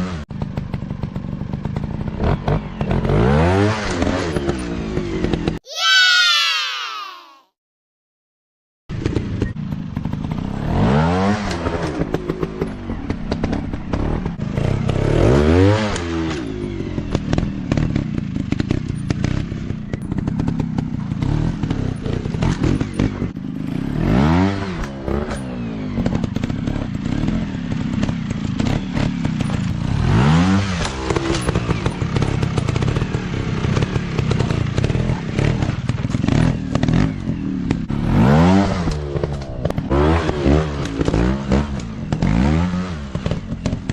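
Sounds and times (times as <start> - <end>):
motorcycle engines revving: 0.0 - 5.6, 8.9 - 43.9.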